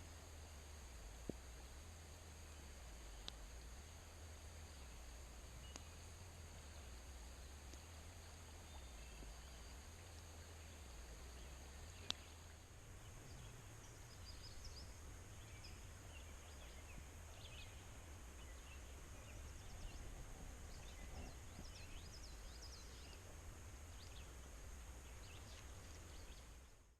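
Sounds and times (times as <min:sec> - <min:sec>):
low steady rumble: 0:00.0 - 0:26.9.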